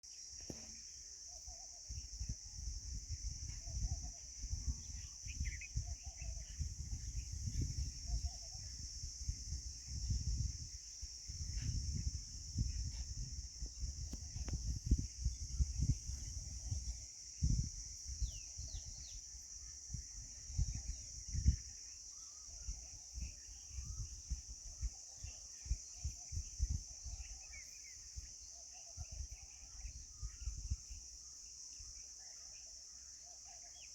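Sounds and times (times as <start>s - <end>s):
crickets droning: 0.0s - 33.9s
faint bird chirps: 0.0s - 33.9s.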